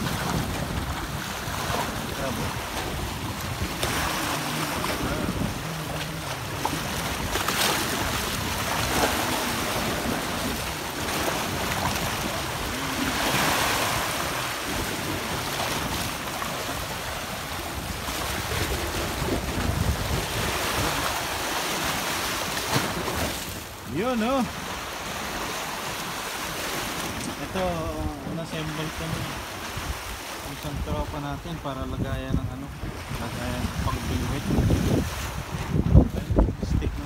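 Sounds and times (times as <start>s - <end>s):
sea surf washing on shore: 0.0s - 37.0s
wind buffeting microphone: 0.0s - 37.0s.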